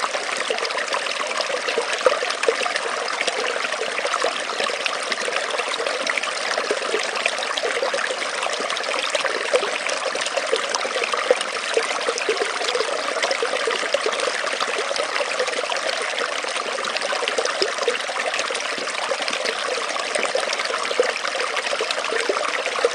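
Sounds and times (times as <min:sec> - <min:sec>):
stream trickling over stones: 0:00.0 - 0:22.9.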